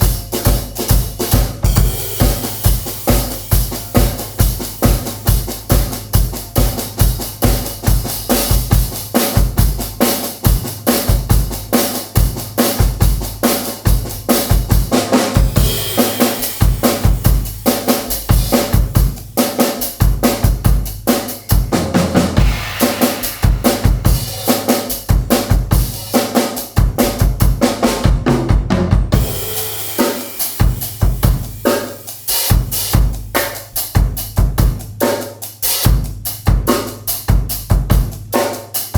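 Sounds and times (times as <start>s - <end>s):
drum kit playing fast groove: 0.0s - 38.9s.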